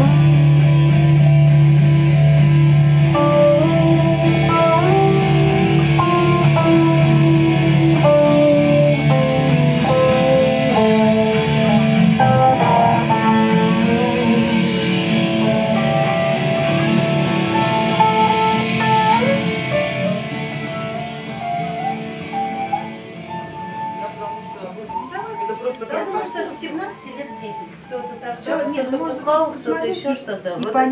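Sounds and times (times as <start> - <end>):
acoustic guitar: 0.0 - 28.6
electric guitar melody: 0.0 - 30.9.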